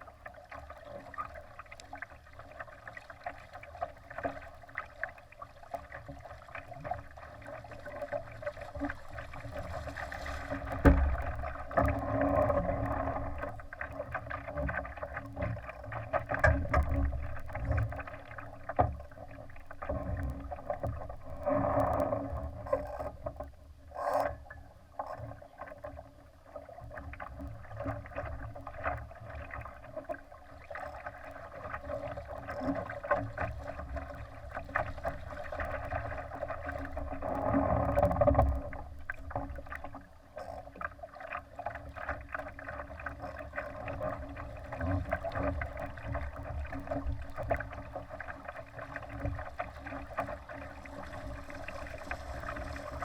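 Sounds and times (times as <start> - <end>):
water rushing against hull: 0.0 - 53.0.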